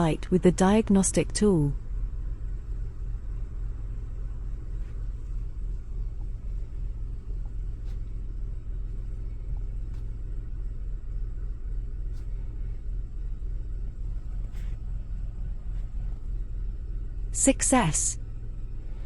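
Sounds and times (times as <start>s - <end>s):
small car engine idling: 0.0s - 19.0s.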